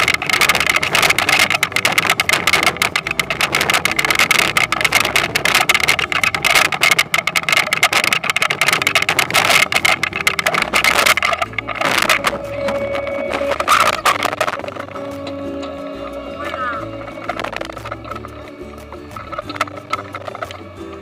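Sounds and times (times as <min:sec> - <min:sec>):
fast continuous rattle and clatter: 0:00.0 - 0:21.0.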